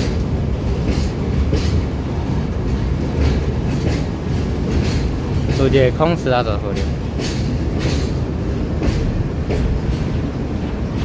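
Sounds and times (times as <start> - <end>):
freight train wheels rumbling: 0.0 - 11.0
wheels clacking: 0.0 - 11.0.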